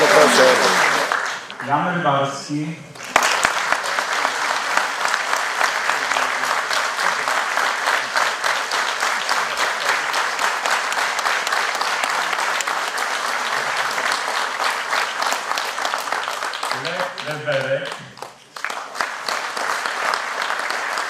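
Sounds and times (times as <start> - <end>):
audience applause: 0.0 - 1.7, 3.0 - 21.0.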